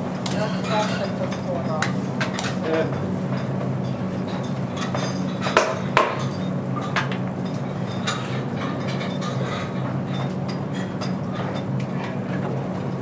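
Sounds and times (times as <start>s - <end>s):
steady low hum: 0.0s - 13.0s
carpentry knocks and clinks: 0.2s - 12.5s.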